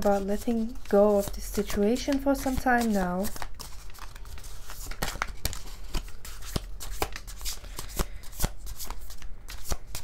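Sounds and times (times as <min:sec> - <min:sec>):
cards being shuffled by hand: 0:00.0 - 0:10.0.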